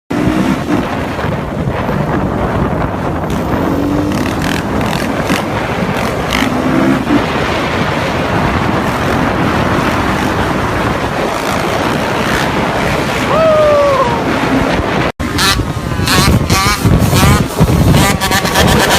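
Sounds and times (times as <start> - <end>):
dirt bikes running: 0.1 - 18.9
wind rumble on microphone: 0.1 - 18.9.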